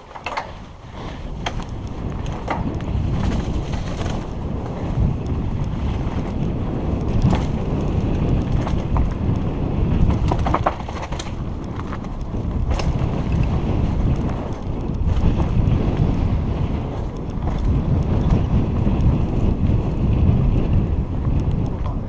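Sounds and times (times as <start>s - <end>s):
bike clicking and rattling: 0.0s - 22.0s
bike tyres rolling on rocky trail: 0.0s - 22.0s
wind buffeting microphone: 0.0s - 22.0s.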